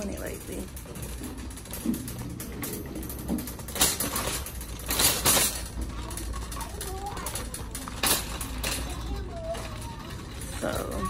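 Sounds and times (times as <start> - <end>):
shopping cart wheels rattling: 0.0 - 11.0.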